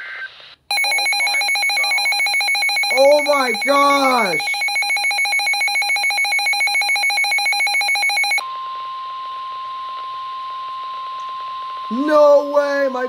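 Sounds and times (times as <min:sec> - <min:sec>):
steady alarm tone: 0:00.7 - 0:13.0.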